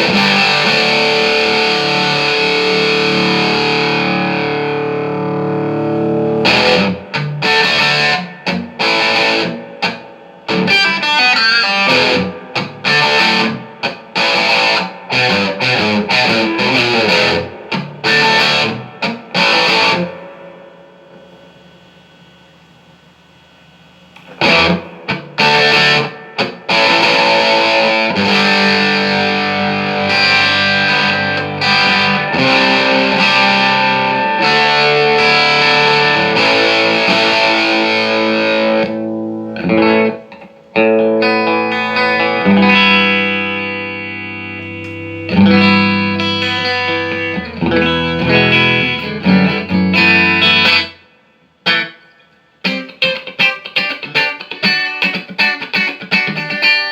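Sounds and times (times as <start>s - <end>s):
distorted electric guitar chords: 0.0s - 56.9s.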